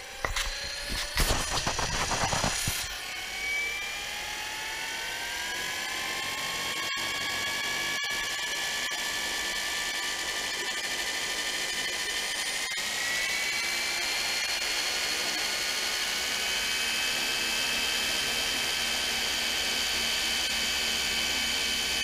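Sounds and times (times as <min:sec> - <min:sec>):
model helicopter whine: 0:00.0 - 0:22.0.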